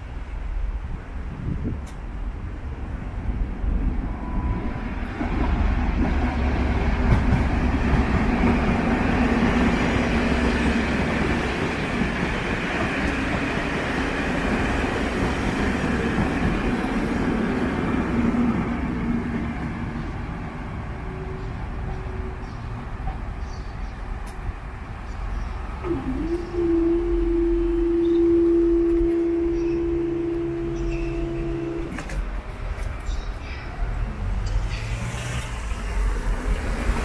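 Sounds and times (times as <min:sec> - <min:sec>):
train engine drone: 0:00.0 - 0:37.0
wheels rumbling on rail: 0:00.0 - 0:37.0.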